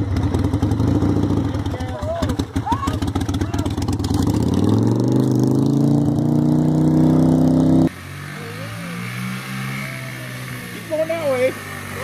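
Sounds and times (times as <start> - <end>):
motorcycle engine revving hard: 0.0 - 12.0
small engine running steadily: 0.0 - 12.0.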